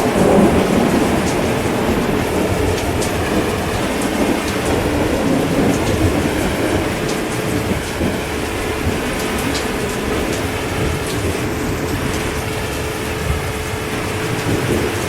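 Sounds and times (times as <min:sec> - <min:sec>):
heavy rain with drop splats: 0:00.0 - 0:15.0
low rolling thunder: 0:00.0 - 0:15.0.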